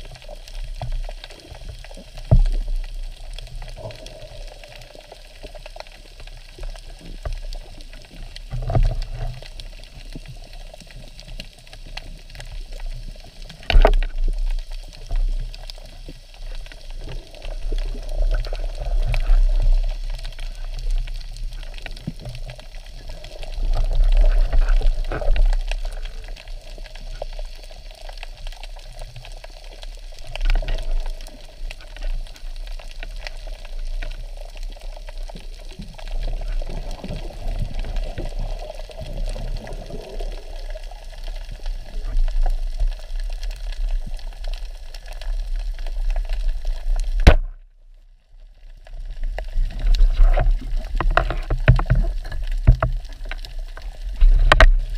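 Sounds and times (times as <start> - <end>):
underwater bubbles gurgling: 0.0 - 54.9.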